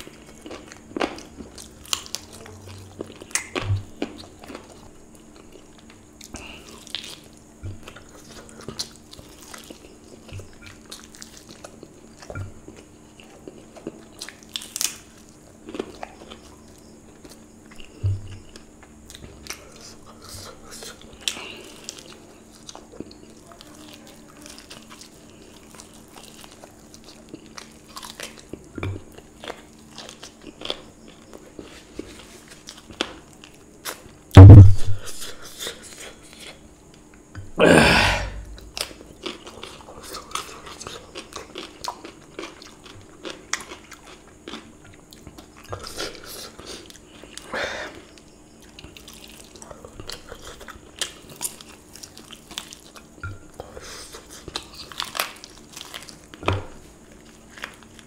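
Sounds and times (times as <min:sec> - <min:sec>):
chewing crunchy fried chicken: 0:00.0 - 0:37.3, 0:38.2 - 0:58.0
faint steady hum: 0:00.0 - 0:58.0.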